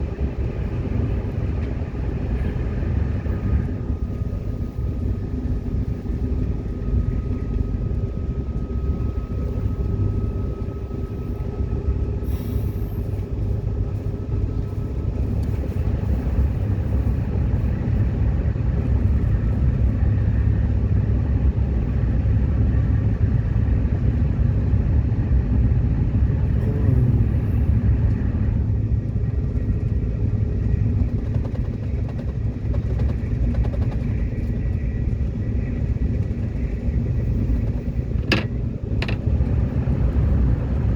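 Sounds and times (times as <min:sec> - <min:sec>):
faint steady whine: 0:00.0 - 0:40.9
subway train wheels rumbling: 0:00.0 - 0:40.9.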